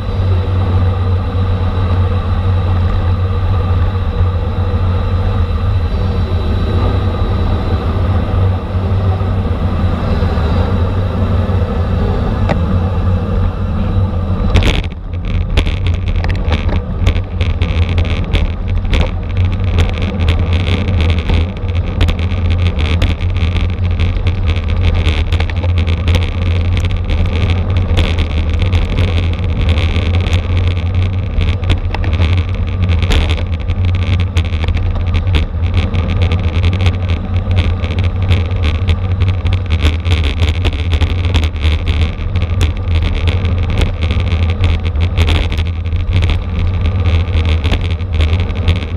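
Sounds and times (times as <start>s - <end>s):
road clicks and rattles: 0.0s - 48.9s
wind rumbling over microphone: 0.0s - 48.9s.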